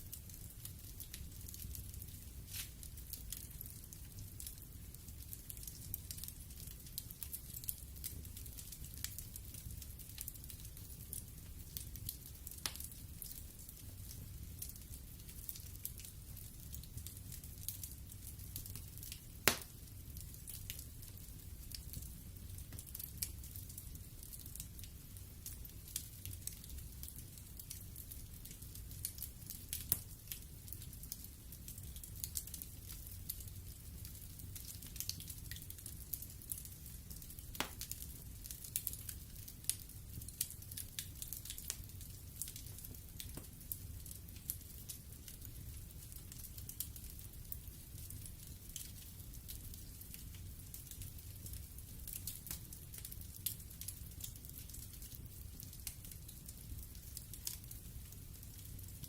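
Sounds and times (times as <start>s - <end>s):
low rumble of burning logs: 0.0s - 59.0s
wood fire crackling and popping: 0.0s - 59.0s.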